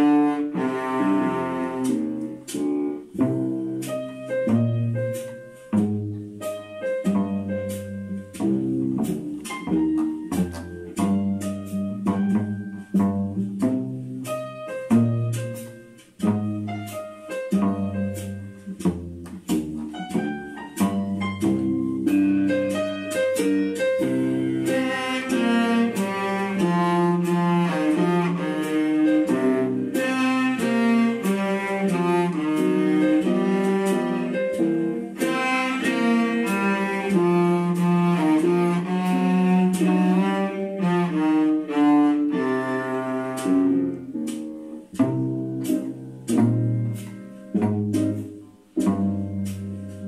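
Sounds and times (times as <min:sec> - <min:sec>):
bowed cello tune: 0:00.0 - 0:50.0.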